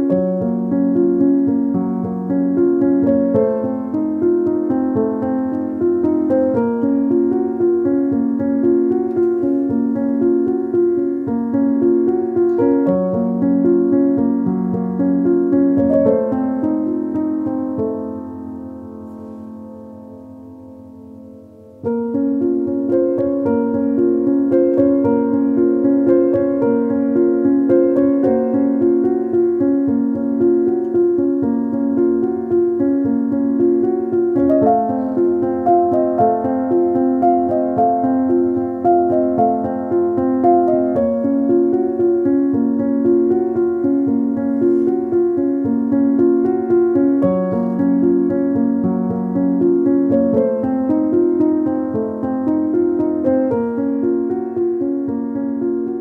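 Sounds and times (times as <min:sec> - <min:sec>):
gentle piano music: 0:00.0 - 0:56.0.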